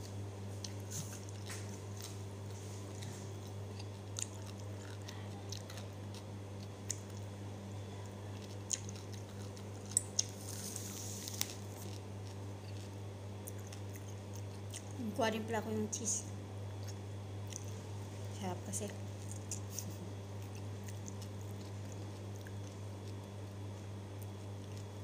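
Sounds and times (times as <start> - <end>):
person crunching cucumber: 0.0 - 7.4, 8.0 - 15.0, 18.9 - 25.0
low steady hum: 0.0 - 25.0.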